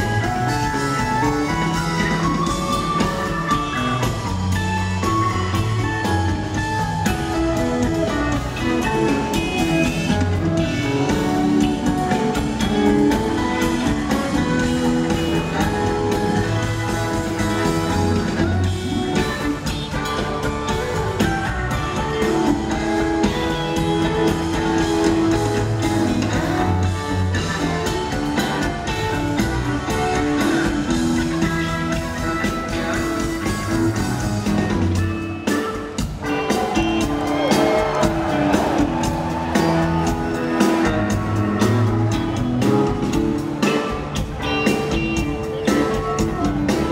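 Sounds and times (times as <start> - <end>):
bass guitar: 0.0 - 46.9
drum kit: 0.0 - 46.9
electric guitars: 0.0 - 46.9.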